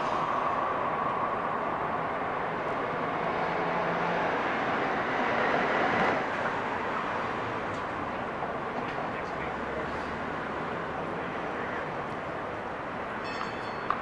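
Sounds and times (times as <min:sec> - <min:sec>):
bus engine hum: 0:00.0 - 0:13.3
street traffic noise: 0:00.0 - 0:14.0.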